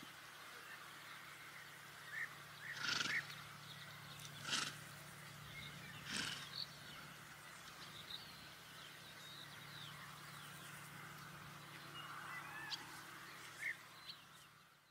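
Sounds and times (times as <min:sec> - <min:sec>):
birds chirping: 0:00.0 - 0:14.9
steady low hum: 0:00.6 - 0:14.9.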